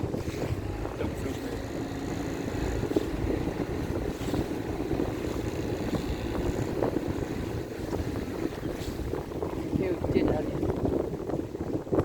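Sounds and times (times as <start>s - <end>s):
motor boat engine running: 0.0s - 12.0s
wind buffeting microphone: 0.0s - 12.0s.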